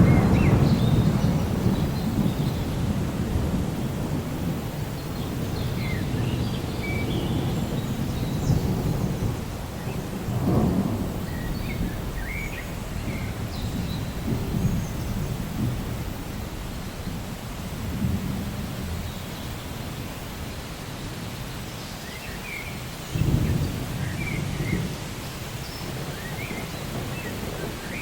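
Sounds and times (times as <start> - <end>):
thunder rumbling: 0.0 - 20.3, 23.1 - 28.0
rain: 0.0 - 28.0.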